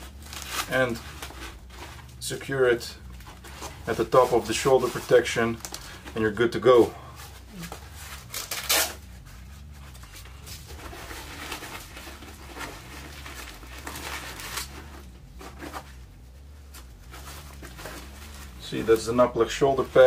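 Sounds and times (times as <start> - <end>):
cloth rustling and rubbing: 0.0 - 20.0
fabric rasp and scrapes: 0.0 - 20.0
low hum: 0.0 - 20.0.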